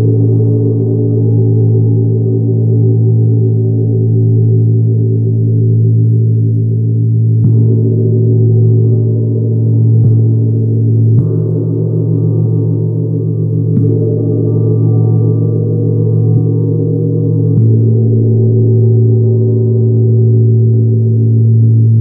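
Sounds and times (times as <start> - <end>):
meditation gong drone: 0.0 - 22.0.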